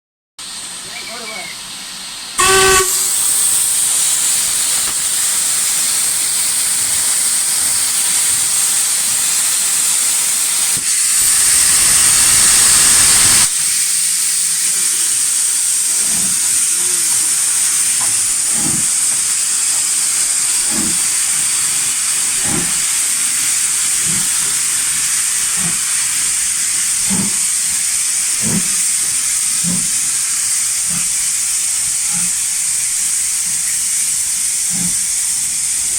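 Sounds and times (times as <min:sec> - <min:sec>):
steam locomotive hissing: 0:00.4 - 0:35.9.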